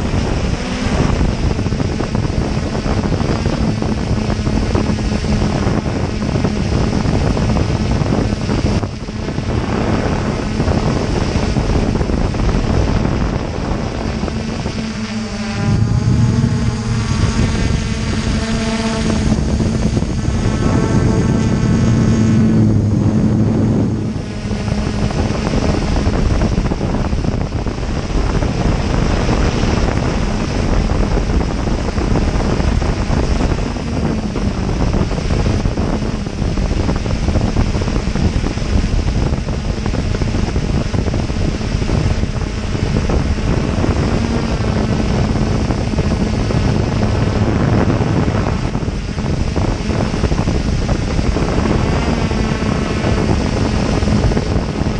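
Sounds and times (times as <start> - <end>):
drone propellers whirring: 0.0 - 54.9
wind buffeting microphone: 0.0 - 54.9.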